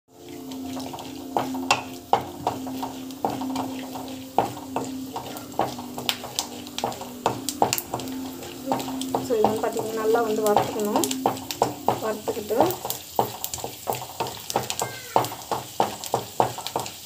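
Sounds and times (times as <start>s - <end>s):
peanuts sizzling in a pan: 0.1s - 17.0s
spatula scraping a pan: 0.2s - 17.0s.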